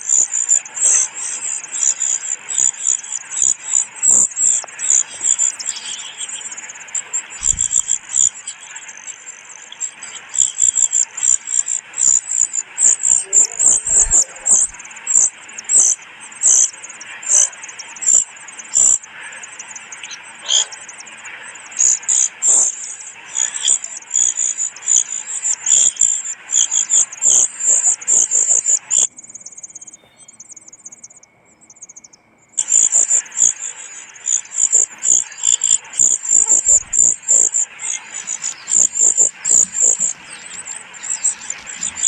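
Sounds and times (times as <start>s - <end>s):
chick begging chirps: 0.0s - 42.0s
faint steady whistle: 0.0s - 42.0s.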